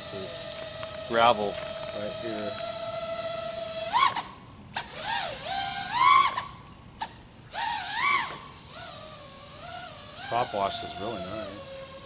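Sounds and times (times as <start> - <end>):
drone motors and props whining: 0.0 - 12.0.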